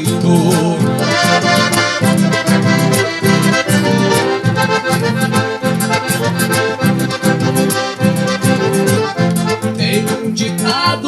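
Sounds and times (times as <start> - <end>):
accordion playing: 0.0 - 11.0.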